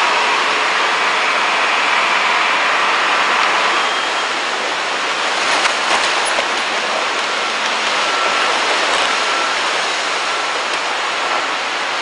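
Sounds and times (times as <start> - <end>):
water churning around ship hull: 0.0 - 12.0.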